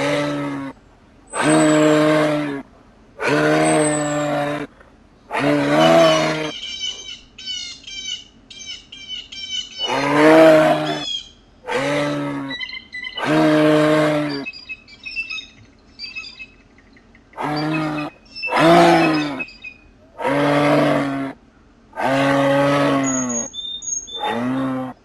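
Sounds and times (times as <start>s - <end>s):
moose calling: 0.0s - 2.6s, 3.2s - 4.7s, 5.3s - 16.5s, 17.1s - 21.4s, 22.0s - 25.0s
songbirds chirping: 0.0s - 25.0s.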